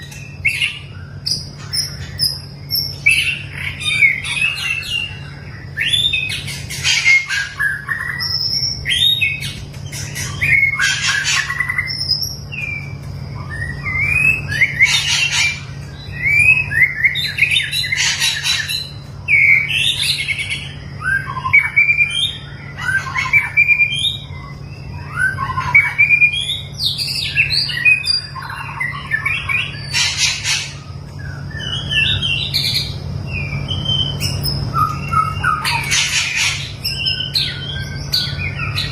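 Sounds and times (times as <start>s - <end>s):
bird singing whistled phrases: 0.0s - 38.9s
harsh bird notes: 0.0s - 38.9s
steady low hum: 0.0s - 38.9s.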